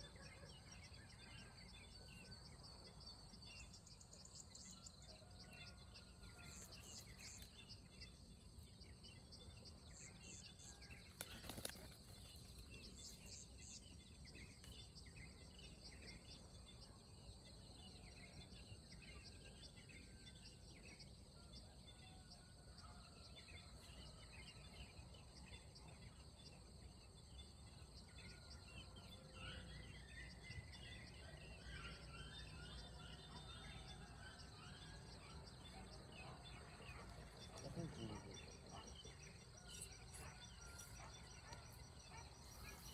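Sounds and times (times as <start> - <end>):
small birds chirping: 0.0 - 22.3, 23.2 - 42.9.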